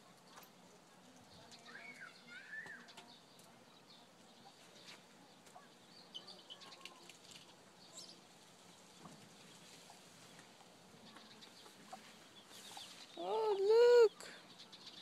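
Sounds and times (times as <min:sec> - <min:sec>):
faint bird chirps: 0:01.2 - 0:15.0.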